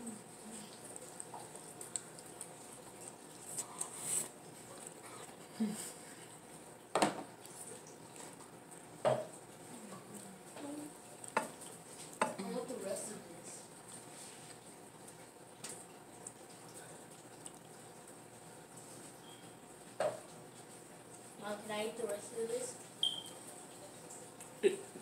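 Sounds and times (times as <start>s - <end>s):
person chewing soft food: 0.0s - 12.3s, 13.7s - 21.3s, 22.8s - 25.0s.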